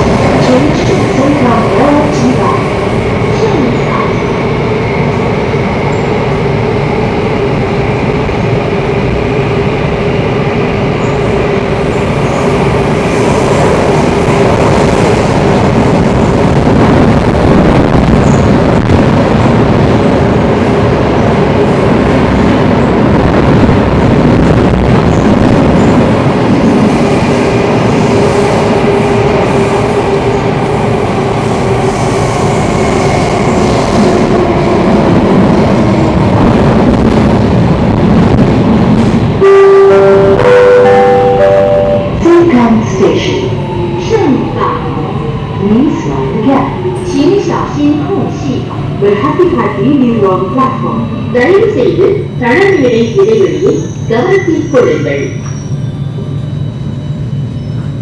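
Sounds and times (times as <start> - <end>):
train hum: 0.0 - 58.0.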